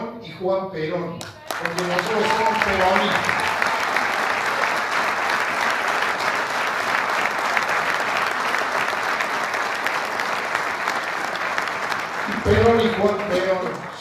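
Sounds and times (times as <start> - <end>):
audience applauding: 1.2 - 14.0.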